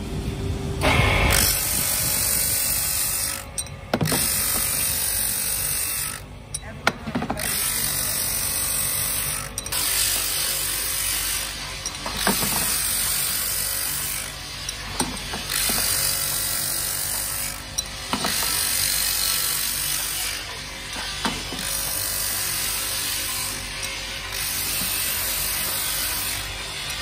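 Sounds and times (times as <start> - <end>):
motor hum: 0.0 - 27.0
harsh grinding hiss: 0.8 - 6.2, 7.4 - 27.0
sharp metal clicks: 1.4 - 27.0.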